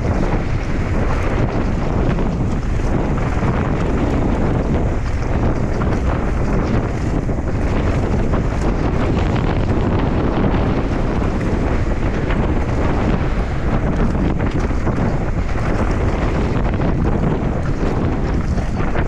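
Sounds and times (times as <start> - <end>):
bike rattling: 0.0 - 19.0
tyres rumbling over dirt: 0.0 - 19.0
wind noise on microphone: 0.0 - 19.0.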